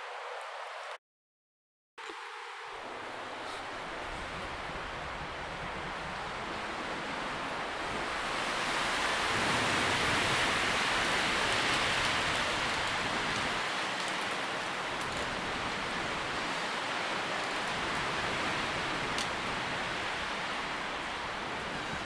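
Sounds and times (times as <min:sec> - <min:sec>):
wind rustling tree leaves: 0:02.0 - 0:22.0.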